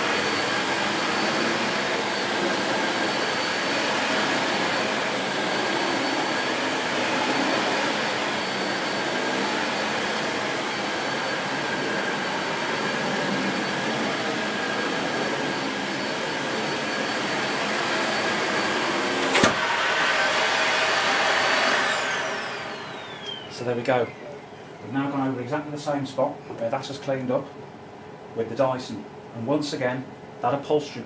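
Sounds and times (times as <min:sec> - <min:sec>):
vacuum cleaner motor whine: 0:00.0 - 0:25.3.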